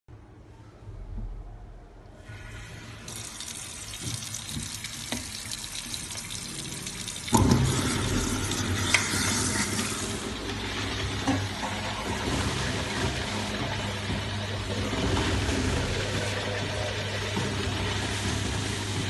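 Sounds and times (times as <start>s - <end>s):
garbage disposal grinding: 3.0s - 19.0s
tap water running into sink: 3.0s - 19.0s.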